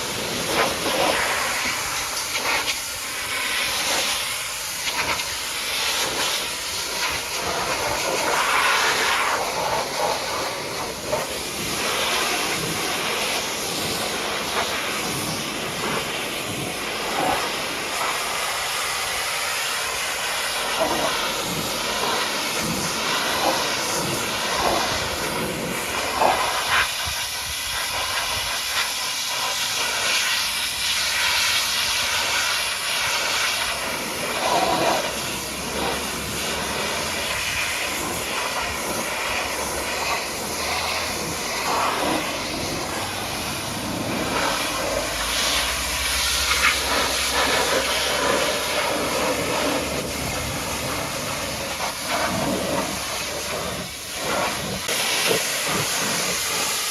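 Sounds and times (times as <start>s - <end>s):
pressure washer water jet hissing: 0.0s - 56.9s.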